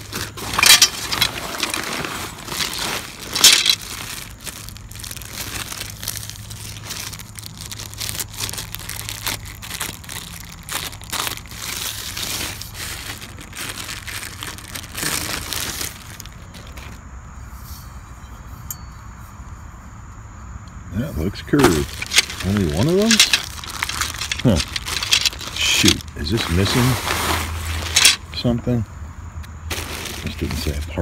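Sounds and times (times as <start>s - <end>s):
plastic packaging crinkling: 0.0s - 17.0s, 21.4s - 28.4s, 29.7s - 30.8s.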